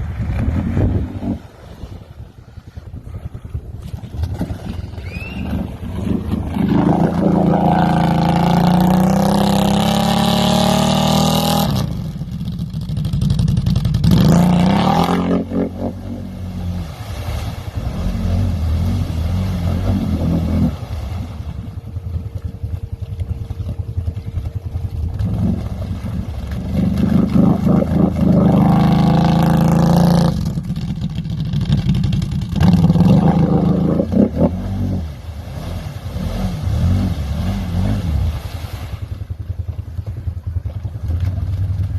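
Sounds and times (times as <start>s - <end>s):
off-road vehicle engine revving: 5.0s - 41.9s.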